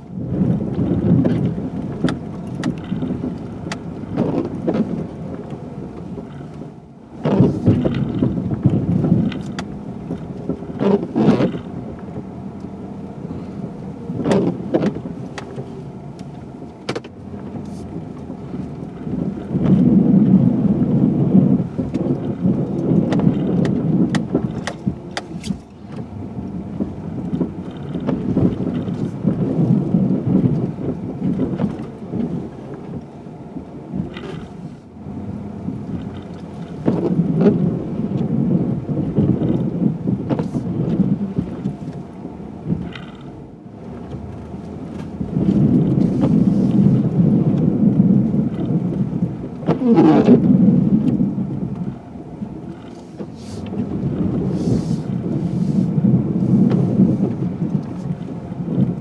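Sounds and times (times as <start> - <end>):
truck engine low rumble: 0.0 - 59.0.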